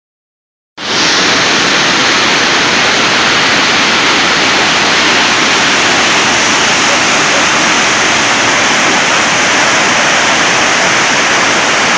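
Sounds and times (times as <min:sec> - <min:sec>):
waterfall rushing: 0:00.8 - 0:11.9.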